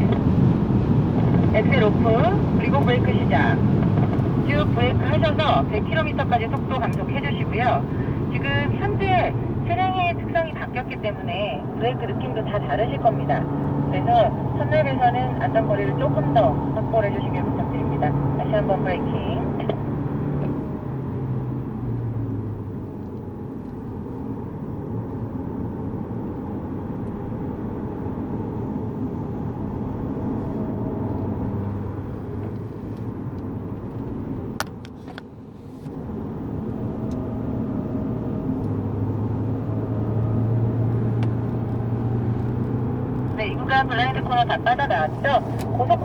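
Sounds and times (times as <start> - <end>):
car engine drone inside cabin: 0.0 - 46.0.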